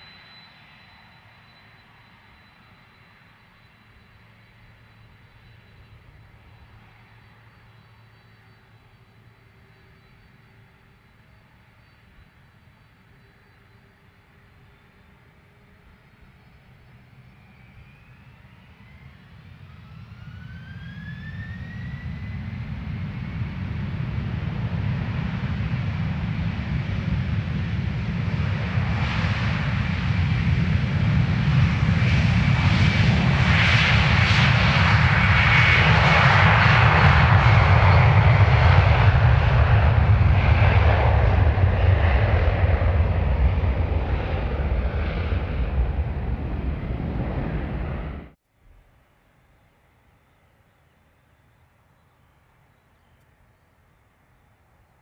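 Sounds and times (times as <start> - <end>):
jet engines roaring at takeoff: 0.0 - 48.4.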